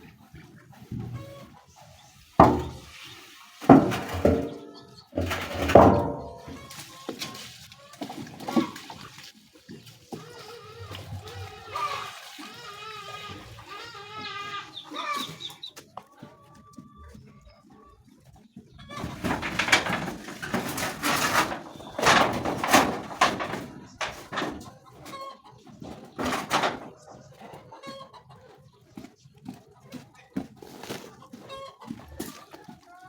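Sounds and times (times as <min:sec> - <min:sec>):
chickens clucking and squawking: 0:00.0 - 0:33.0.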